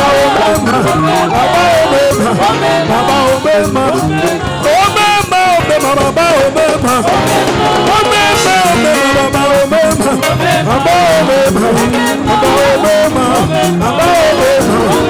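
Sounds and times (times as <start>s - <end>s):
person singing: 0.0s - 15.0s
steady percussion beat: 0.0s - 15.0s.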